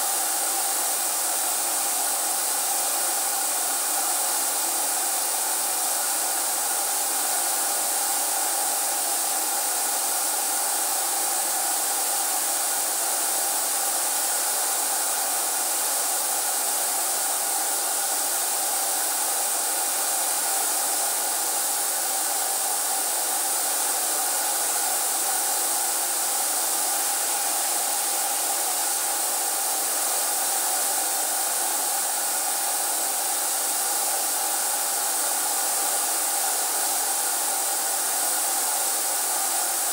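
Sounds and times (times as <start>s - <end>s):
paint sprayer turbine hissing: 0.0s - 39.9s.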